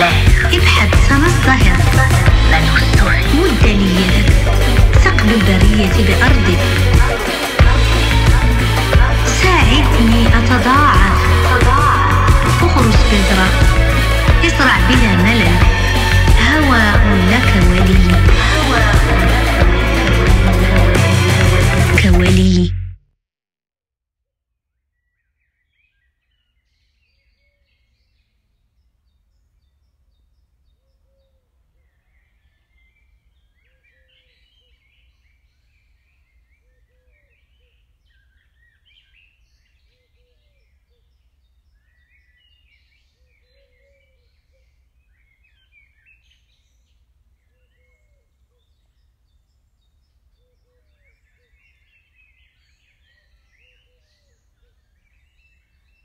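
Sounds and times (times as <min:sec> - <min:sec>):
songbirds chirping: 0:00.0 - 0:22.7, 0:24.8 - 0:56.0.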